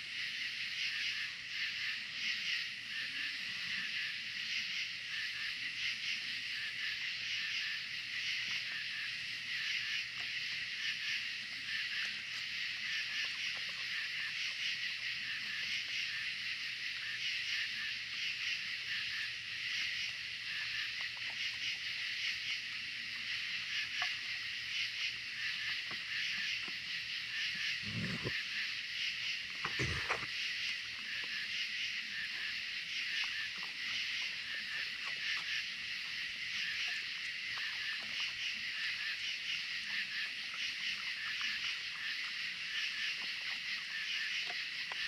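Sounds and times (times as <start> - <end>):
night insects shrilling: 0.0 - 45.0.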